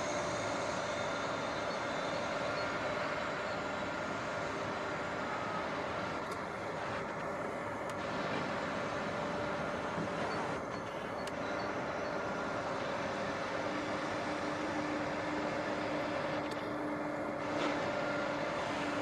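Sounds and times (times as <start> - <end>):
truck engine and hydraulic pump: 0.0 - 19.0.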